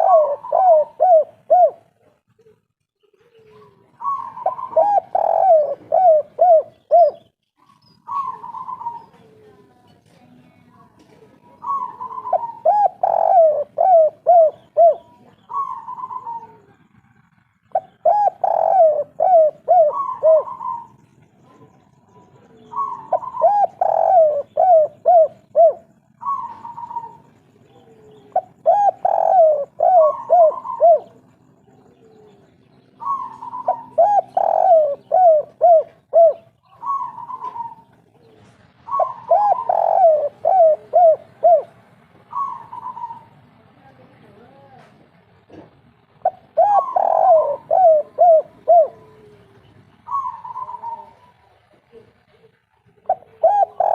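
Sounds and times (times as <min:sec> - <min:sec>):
dove cooing: 0:00.0 - 0:09.8, 0:10.8 - 0:43.5, 0:45.5 - 0:53.9.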